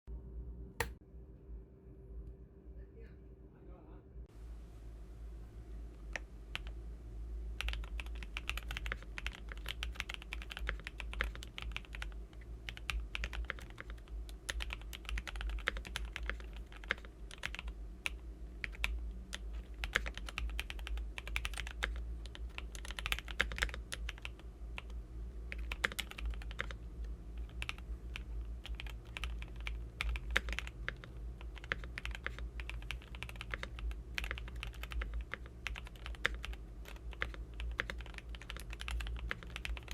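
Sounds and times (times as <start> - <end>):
fast typing on mechanical keyboard: 6.5 - 6.7, 7.6 - 39.9.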